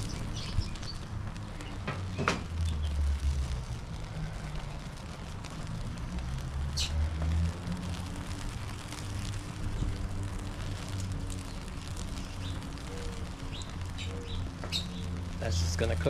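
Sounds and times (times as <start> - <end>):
low steady rumble: 0.0 - 16.0
sauce sizzling in a pan: 0.0 - 16.0.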